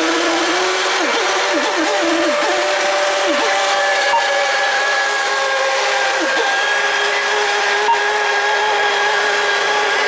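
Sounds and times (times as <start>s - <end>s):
model boat engines whining: 0.0s - 10.0s.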